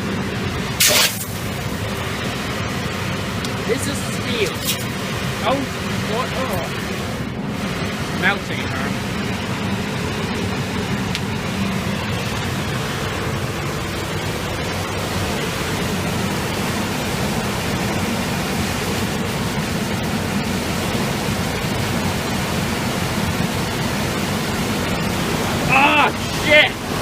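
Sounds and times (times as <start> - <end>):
blower rushing air with hum: 0.0 - 27.0.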